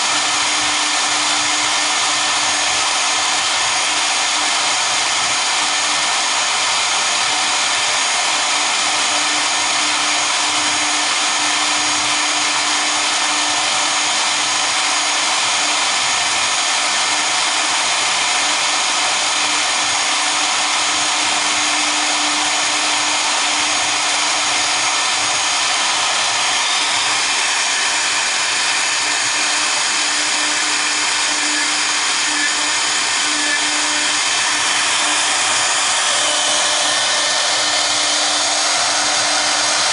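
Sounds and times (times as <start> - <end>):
router spindles whirring: 0.0 - 39.9.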